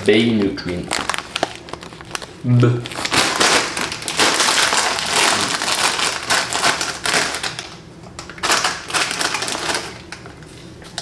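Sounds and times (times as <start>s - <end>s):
plastic crisp packet crinkling: 0.0s - 10.3s.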